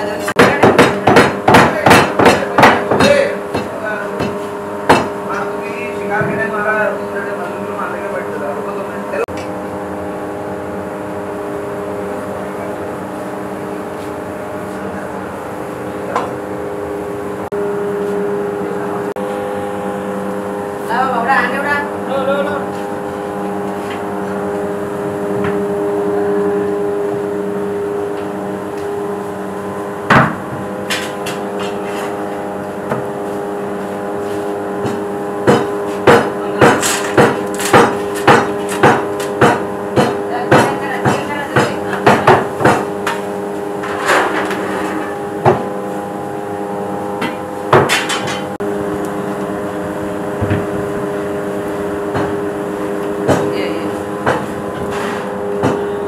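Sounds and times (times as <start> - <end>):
steady droning hum: 0.0 - 56.0.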